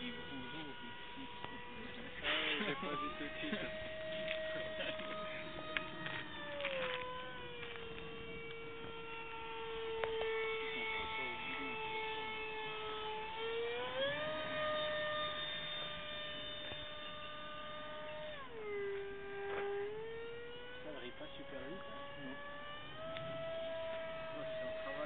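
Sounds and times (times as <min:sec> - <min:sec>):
model airplane motor whine: 0:00.0 - 0:25.0.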